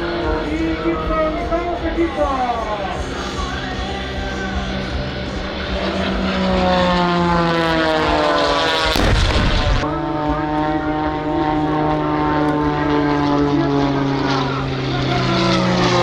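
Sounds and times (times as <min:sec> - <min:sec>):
propeller airplane flying past: 0:00.0 - 0:16.0.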